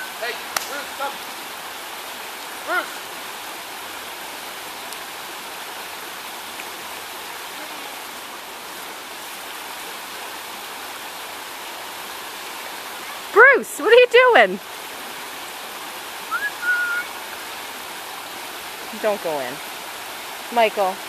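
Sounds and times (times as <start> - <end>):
creek water rushing over log: 0.0 - 21.0.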